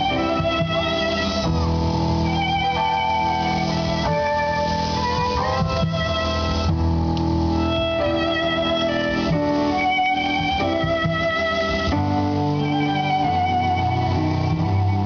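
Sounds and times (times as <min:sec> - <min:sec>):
instrumental music with held chords: 0:00.0 - 0:15.0.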